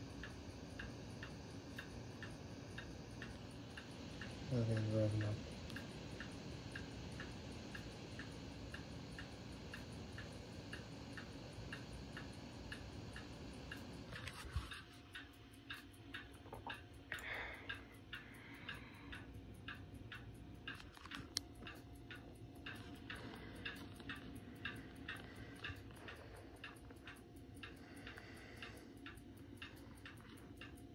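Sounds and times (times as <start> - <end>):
faint regular ticking: 0.0 - 30.9
laptop cooling fan running: 0.0 - 30.9.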